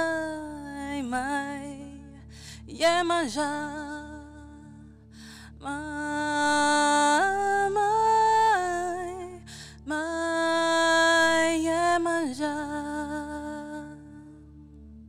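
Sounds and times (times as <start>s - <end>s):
faint low drone: 0.0s - 15.0s.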